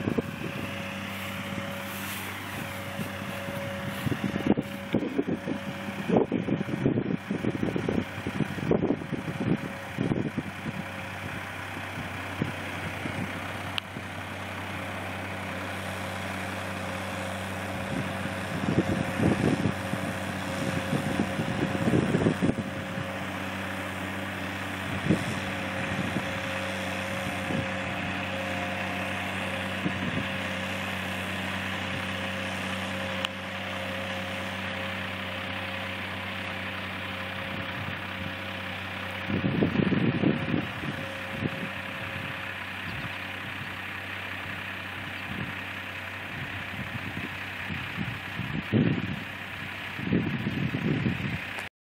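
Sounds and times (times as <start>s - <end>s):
engine whine: 0.0s - 51.7s
tractor engine running: 0.0s - 51.7s.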